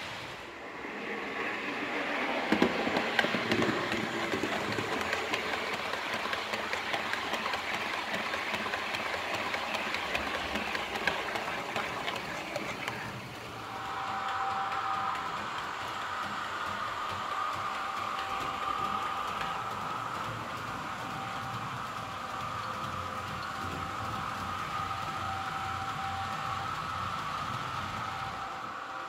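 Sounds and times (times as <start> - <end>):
model train wheels clicking: 1.8 - 29.0.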